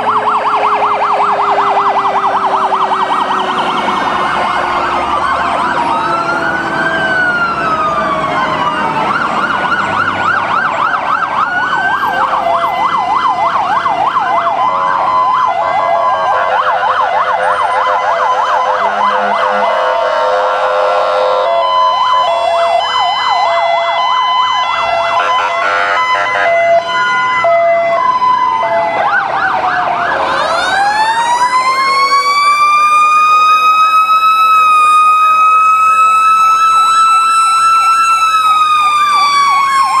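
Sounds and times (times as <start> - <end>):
electronic sirens wailing and yelping: 0.0 - 40.0.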